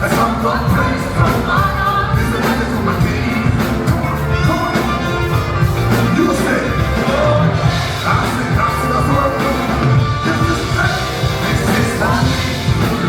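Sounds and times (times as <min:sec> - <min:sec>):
gospel band playing: 0:00.0 - 0:13.0
singing: 0:00.0 - 0:13.0.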